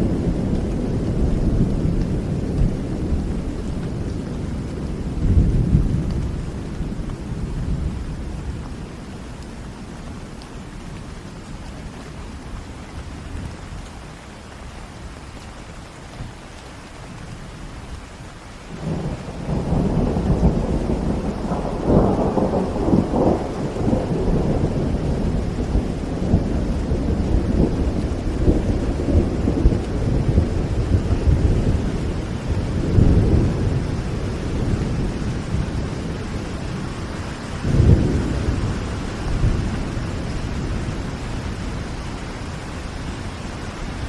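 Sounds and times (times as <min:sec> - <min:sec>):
thunder rumbling: 0:00.0 - 0:13.7, 0:18.2 - 0:44.0
steady rain: 0:00.0 - 0:44.0.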